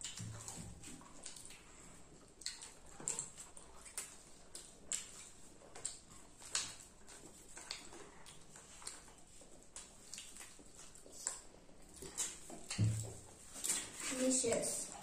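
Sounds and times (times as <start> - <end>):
children chewing crunchy food: 0.0 - 15.0.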